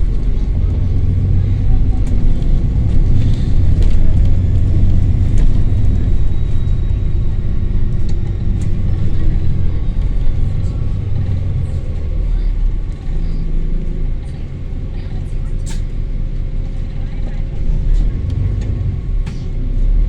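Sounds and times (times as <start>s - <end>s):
bus diesel engine rumbling: 0.0s - 20.0s.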